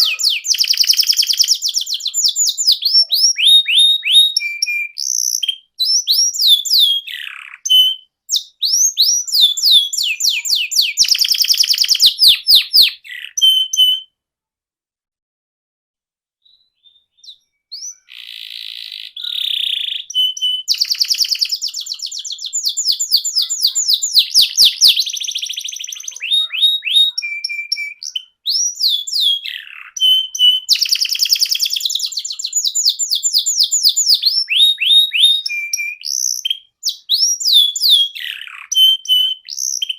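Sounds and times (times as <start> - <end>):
canary singing: 0.0 - 14.2, 16.4 - 39.9.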